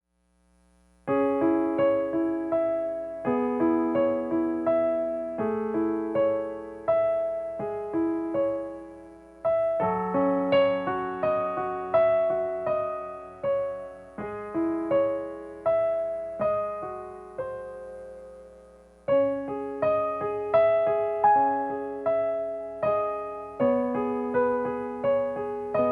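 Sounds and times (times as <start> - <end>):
gentle solo piano: 1.1 - 25.9.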